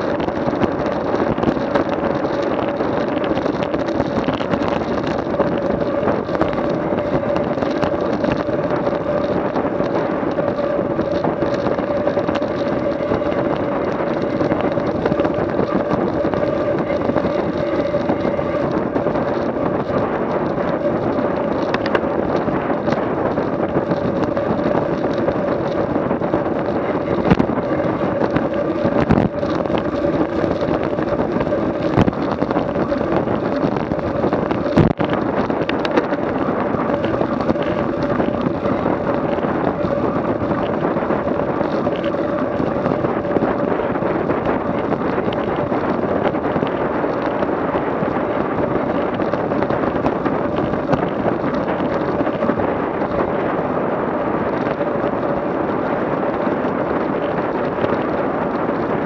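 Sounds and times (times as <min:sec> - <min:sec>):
vehicle engine running: 0:00.0 - 0:47.6.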